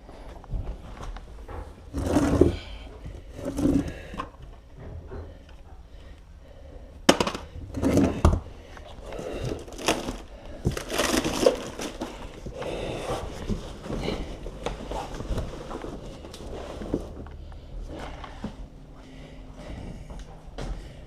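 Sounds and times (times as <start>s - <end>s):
heavy breathing: 0.0s - 21.0s.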